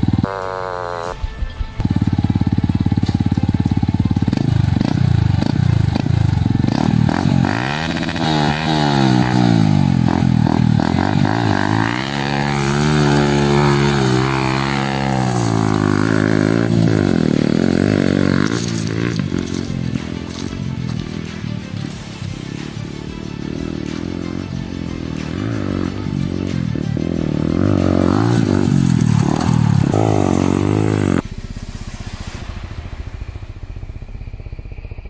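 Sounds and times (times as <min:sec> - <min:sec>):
motorcycle engine under throttle: 0:00.0 - 0:35.0.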